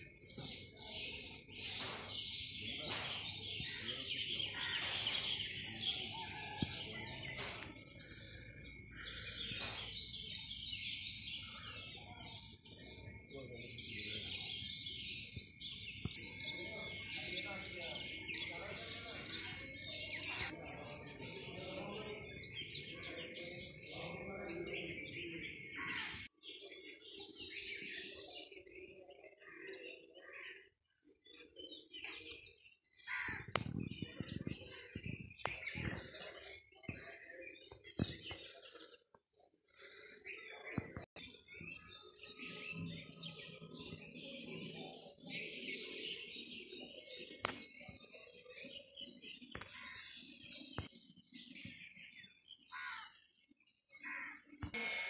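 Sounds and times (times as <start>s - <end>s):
birds chirping in chorus: 0.0s - 55.0s.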